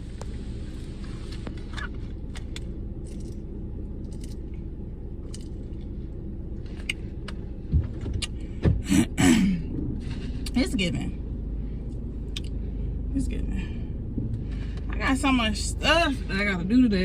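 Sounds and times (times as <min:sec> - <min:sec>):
car rumbling inside cabin: 0:00.0 - 0:17.0.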